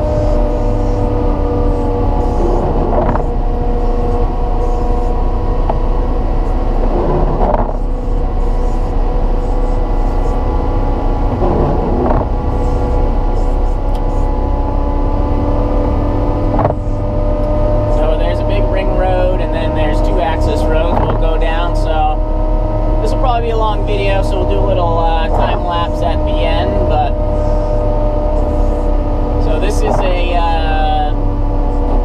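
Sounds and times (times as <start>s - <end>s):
diesel engine running under load: 0.0s - 32.0s.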